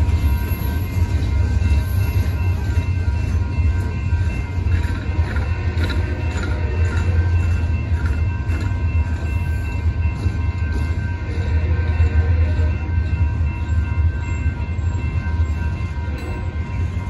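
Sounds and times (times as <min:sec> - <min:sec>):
crossing signal bells ringing: 0:00.0 - 0:17.0
freight train rumbling: 0:00.0 - 0:17.0.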